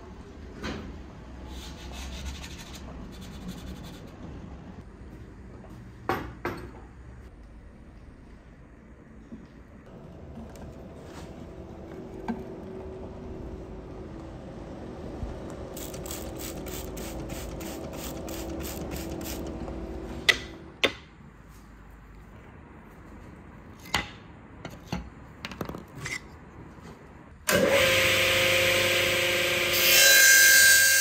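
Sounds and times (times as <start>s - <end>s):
low workshop hum: 0.0s - 31.0s.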